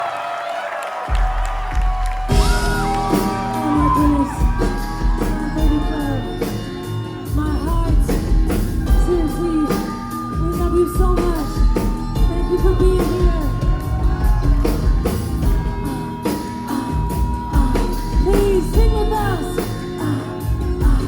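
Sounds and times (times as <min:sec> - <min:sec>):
deep steady beat: 0:01.1 - 0:21.0
live band playing pop: 0:01.1 - 0:21.0
woman singing: 0:02.4 - 0:21.0.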